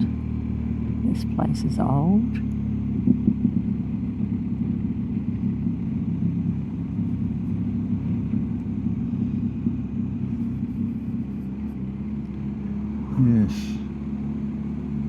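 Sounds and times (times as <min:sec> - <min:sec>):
motorcycle engine cruising: 0:00.0 - 0:15.0
road noise: 0:00.0 - 0:15.0.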